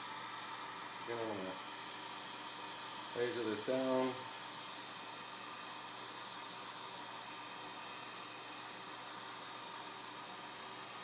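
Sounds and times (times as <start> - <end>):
heat gun blowing hiss: 0.0 - 11.0.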